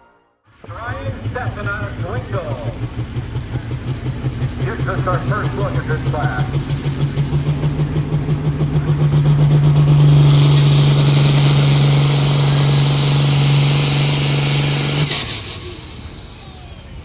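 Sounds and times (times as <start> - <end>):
high whine: 0.0 - 17.0
engine running hard under load: 0.5 - 17.0.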